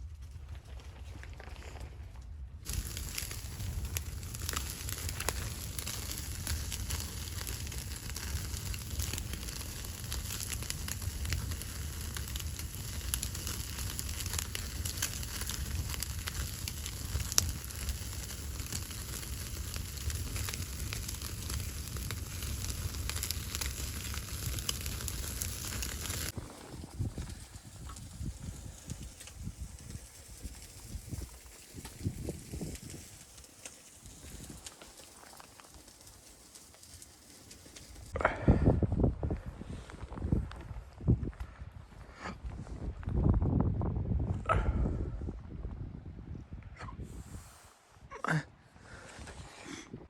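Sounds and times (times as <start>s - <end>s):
fire crackling and popping: 0.0s - 46.4s.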